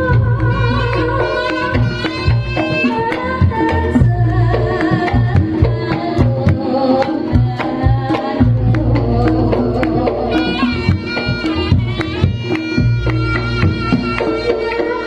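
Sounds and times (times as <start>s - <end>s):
reedy shawm melody: 0.0s - 6.0s, 6.6s - 15.0s
drums beating quick rhythm: 0.0s - 15.0s.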